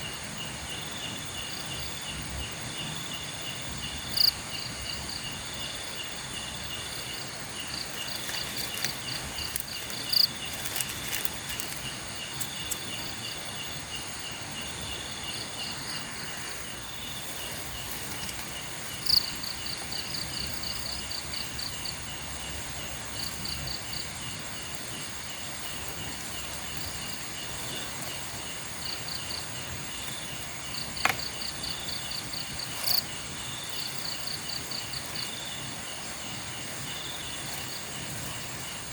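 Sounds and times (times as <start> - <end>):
crickets trilling: 0.0 - 38.9
steady high-pitched insect buzz: 0.0 - 38.9.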